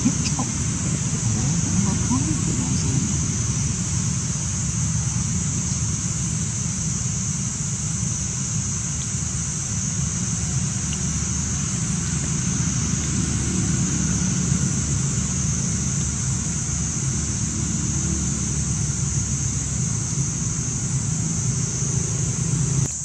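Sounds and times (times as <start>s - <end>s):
high-pitched drone: 0.0s - 7.2s, 9.5s - 22.9s
low rumble: 0.0s - 22.9s.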